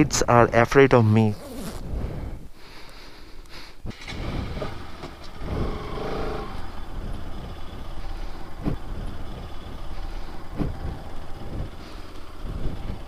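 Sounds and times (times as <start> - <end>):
road noise: 0.0 - 13.0
motorcycle engine rumble: 1.2 - 13.0.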